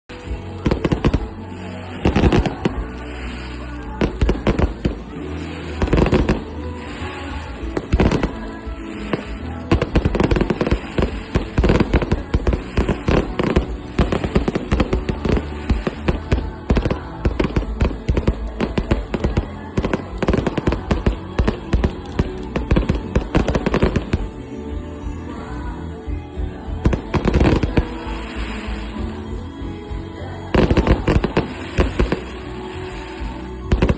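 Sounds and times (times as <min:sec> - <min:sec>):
music playing: 0:00.0 - 0:33.9
fireworks bangs and crackles: 0:00.1 - 0:24.5, 0:26.7 - 0:29.3, 0:29.9 - 0:33.9.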